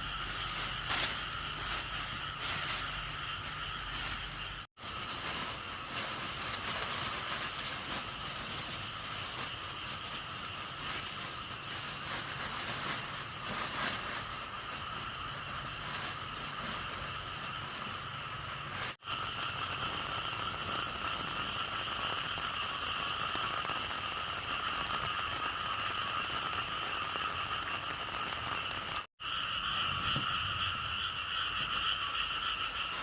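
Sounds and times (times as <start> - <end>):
chorus of frogs calling: 0.0 - 33.0.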